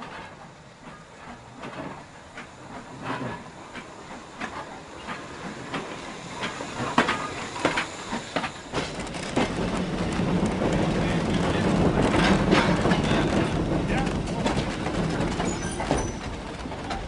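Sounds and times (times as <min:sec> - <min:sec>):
rumble of running train wheels: 0:00.0 - 0:17.0
train wheels clanking on rail joints: 0:00.0 - 0:17.0.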